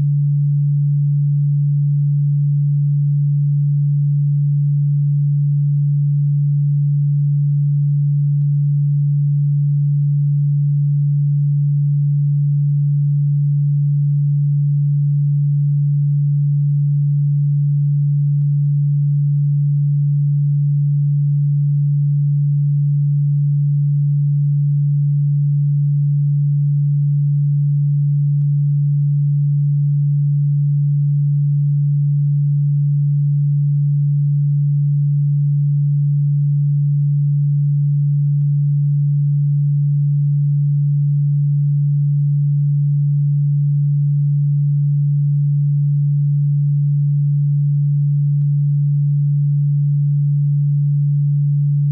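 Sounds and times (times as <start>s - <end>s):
steady low pure tone: 0.0s - 51.9s.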